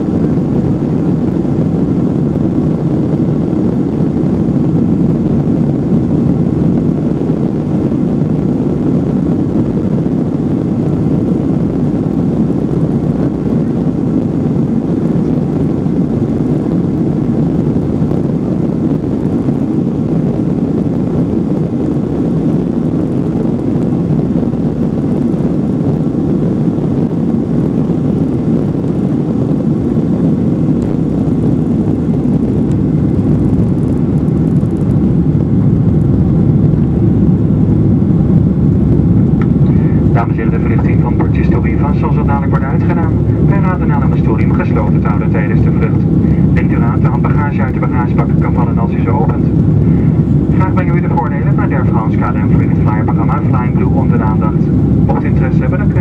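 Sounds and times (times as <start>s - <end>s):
jet engines rushing in cabin: 0.0s - 56.0s.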